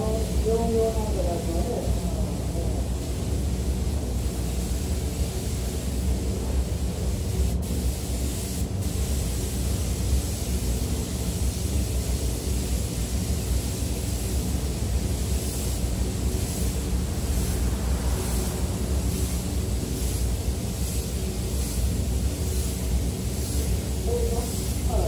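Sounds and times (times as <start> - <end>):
air spray gun hissing: 0.0 - 25.0
steady low rumble: 0.0 - 25.0.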